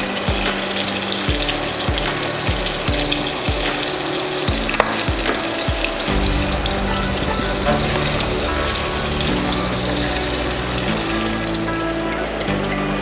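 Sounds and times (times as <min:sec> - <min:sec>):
fish sizzling in a pan: 0:00.0 - 0:12.0
low regular beat: 0:00.0 - 0:12.0.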